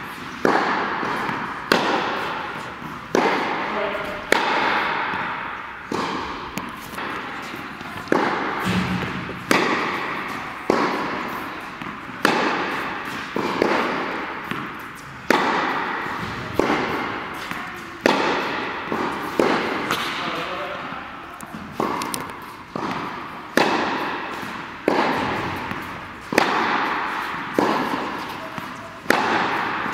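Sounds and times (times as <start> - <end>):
racket hitting tennis ball: 0.0 - 29.9
tennis ball bouncing: 0.0 - 29.9.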